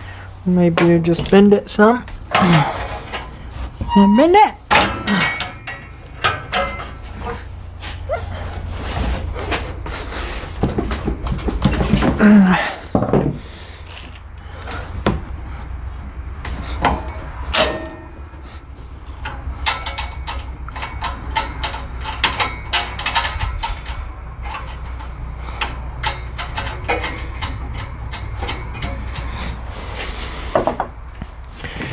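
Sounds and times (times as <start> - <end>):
steady low hum: 0.0 - 31.9
metal knocks clanks and scrapes: 2.2 - 31.3.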